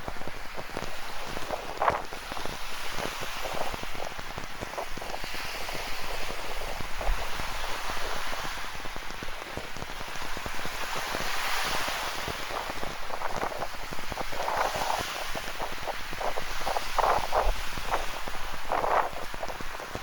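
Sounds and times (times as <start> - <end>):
ocean surf rushing: 0.0 - 20.0
rain drops pattering: 0.0 - 20.0.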